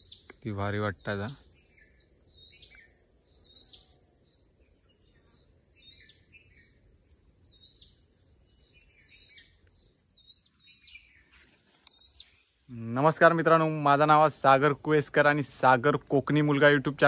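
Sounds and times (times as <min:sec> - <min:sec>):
crickets droning: 0:00.0 - 0:17.0.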